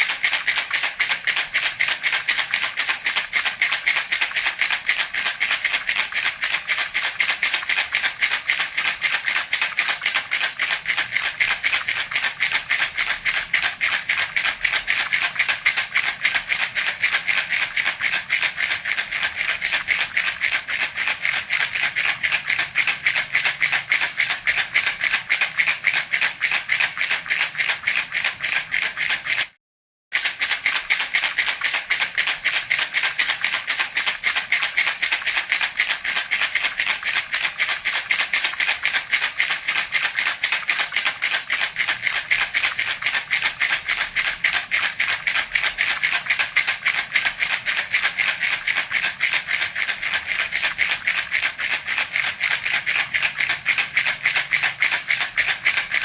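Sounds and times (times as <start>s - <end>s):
baby rattle shaken: 0.0s - 29.6s, 30.2s - 56.0s.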